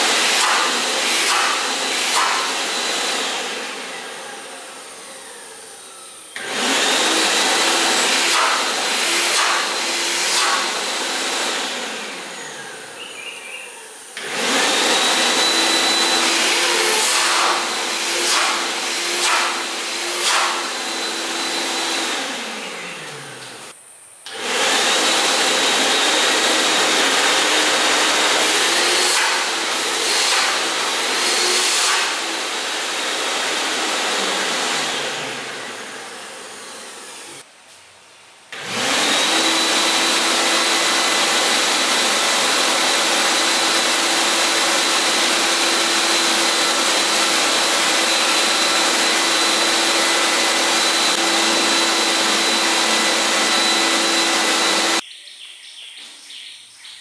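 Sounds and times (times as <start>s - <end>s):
wet and dry vacuum cleaner whining: 0.0s - 37.5s, 38.5s - 55.0s.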